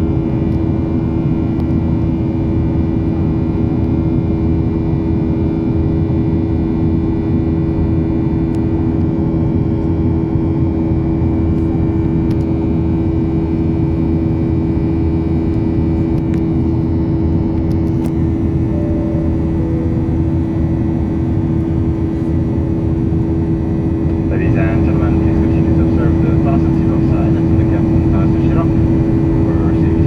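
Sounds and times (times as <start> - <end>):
jet engine drone in cabin: 0.0 - 30.0.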